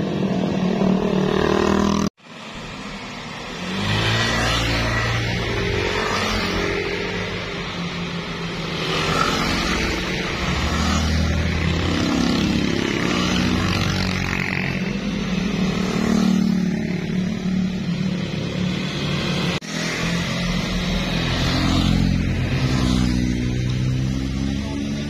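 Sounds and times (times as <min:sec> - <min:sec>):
motorcycles riding past: 0:00.0 - 0:25.0.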